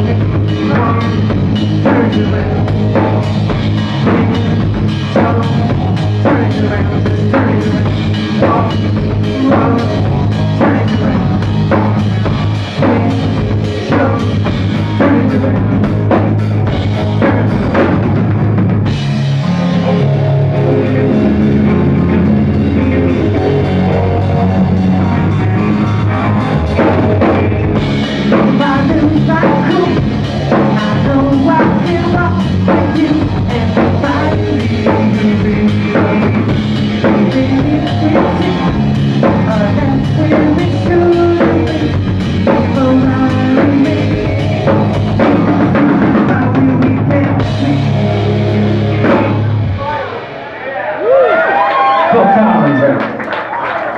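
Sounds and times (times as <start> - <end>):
drum kit playing: 0.0 - 52.0
electric guitars: 0.0 - 53.6.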